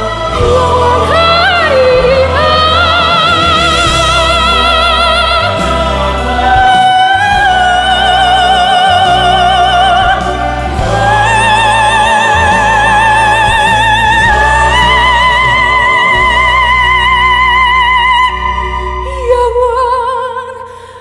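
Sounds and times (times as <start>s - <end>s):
operatic singing: 0.0s - 21.0s.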